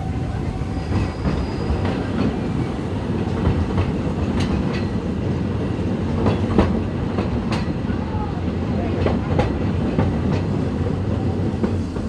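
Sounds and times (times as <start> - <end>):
steam train rumbling: 0.0 - 12.0.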